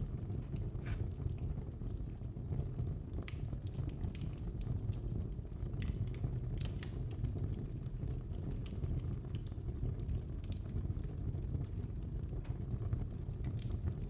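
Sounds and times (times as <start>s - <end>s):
fire crackles and pops: 0.0s - 14.0s
low rumble of flames: 0.0s - 14.0s.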